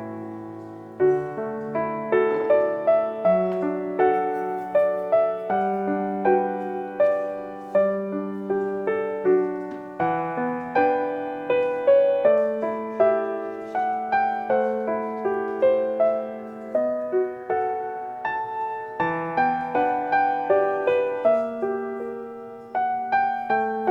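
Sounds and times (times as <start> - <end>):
slow solo piano piece: 0.0 - 23.9.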